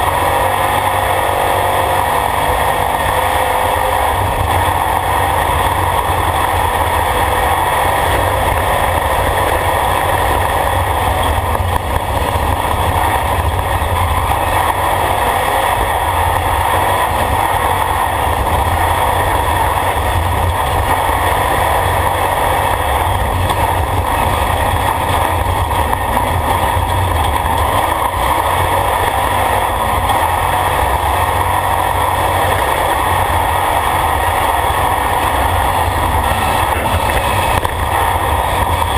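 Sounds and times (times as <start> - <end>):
engine running hard: 0.0 - 38.9
road noise on dirt track: 0.0 - 38.9.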